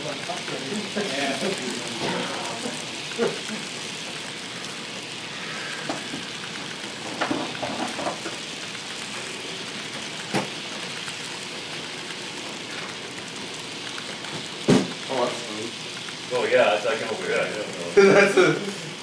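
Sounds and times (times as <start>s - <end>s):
model train wheels rattling: 0.0s - 18.7s.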